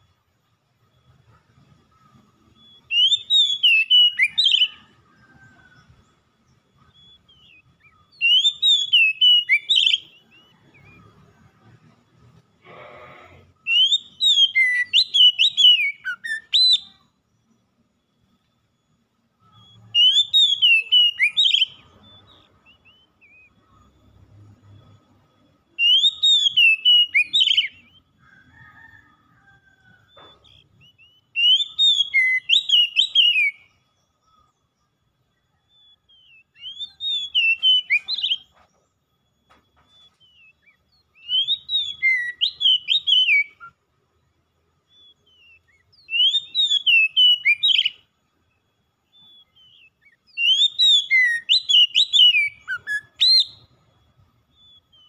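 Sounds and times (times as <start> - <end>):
bird whistled song: 0.9 - 55.0.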